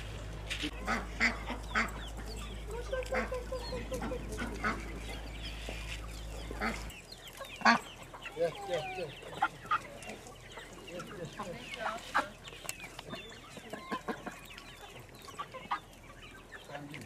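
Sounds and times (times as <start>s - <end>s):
chickens clucking: 0.0s - 17.0s
ducks quacking: 0.2s - 17.0s.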